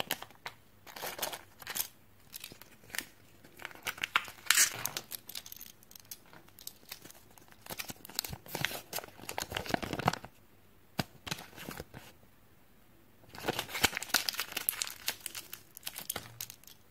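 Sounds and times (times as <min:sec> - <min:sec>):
plastic and foil wrappers crinkling: 0:00.0 - 0:10.4, 0:13.3 - 0:16.9.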